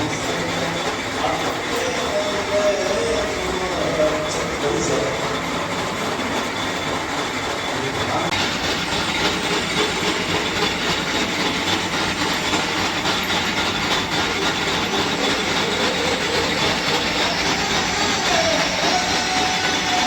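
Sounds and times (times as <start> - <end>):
metal lathe clattering: 0.0 - 20.0
whining tone: 0.0 - 20.0.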